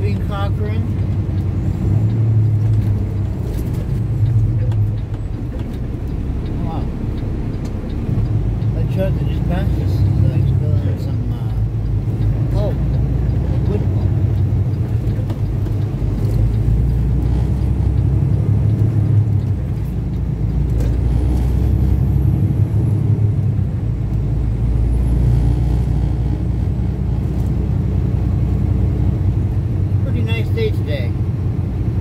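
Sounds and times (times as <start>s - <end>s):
road noise: 0.0s - 32.0s
truck engine drone: 0.0s - 32.0s.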